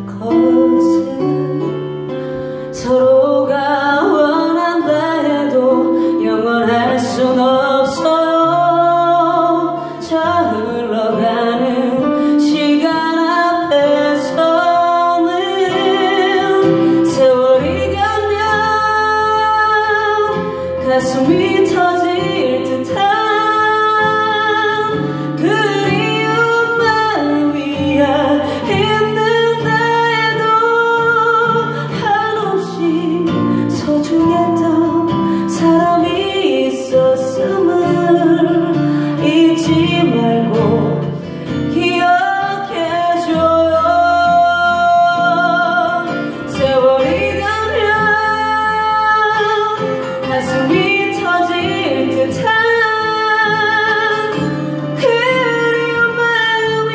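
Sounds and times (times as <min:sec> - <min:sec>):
acoustic guitars: 0:00.0 - 0:56.9
woman singing: 0:00.0 - 0:56.9.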